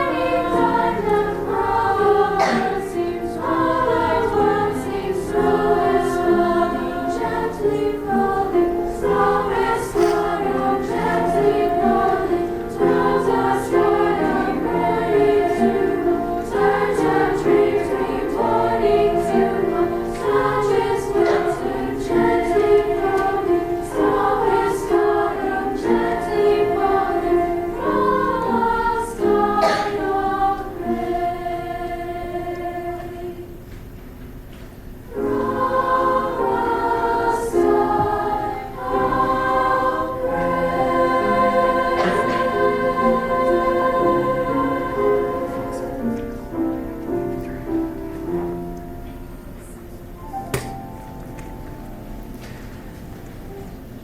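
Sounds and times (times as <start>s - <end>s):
women's choir singing: 0.0s - 33.7s, 35.1s - 48.8s.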